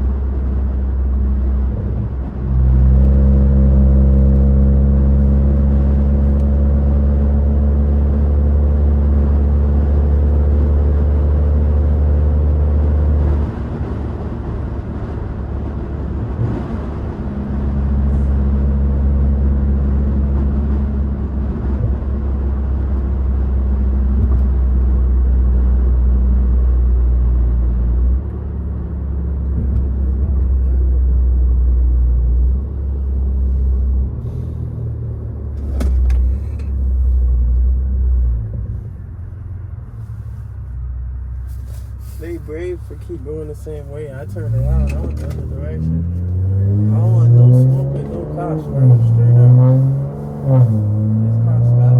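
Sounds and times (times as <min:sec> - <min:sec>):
car exhaust droning: 0:00.0 - 0:51.9.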